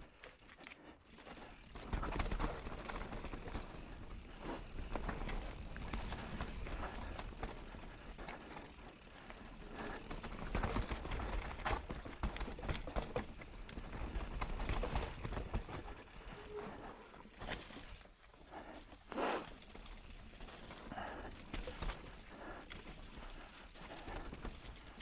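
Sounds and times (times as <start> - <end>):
bike knocking and rattling: 0.0 - 18.3, 19.4 - 25.0
bike tyres rolling over stones: 0.0 - 25.0.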